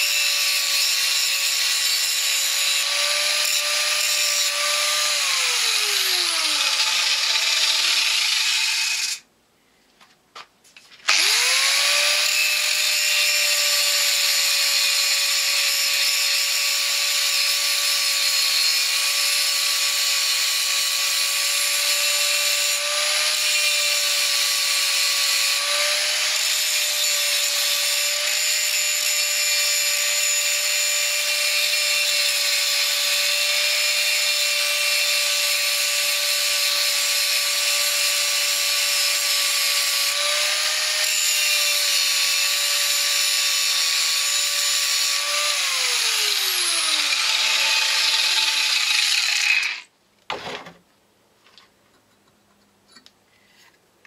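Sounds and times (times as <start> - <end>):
angle grinder grinding metal: 0.0 - 9.2, 11.0 - 49.9.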